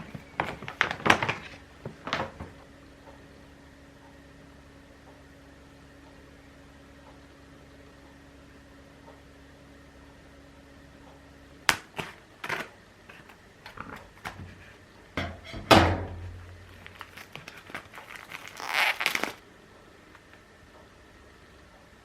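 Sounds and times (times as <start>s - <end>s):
appliance hum: 0.0s - 22.0s.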